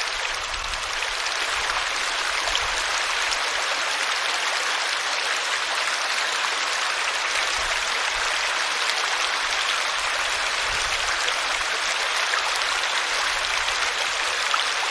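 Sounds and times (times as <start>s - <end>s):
small splashes and trickles: 0.0s - 14.9s
stream water rushing: 0.0s - 14.9s.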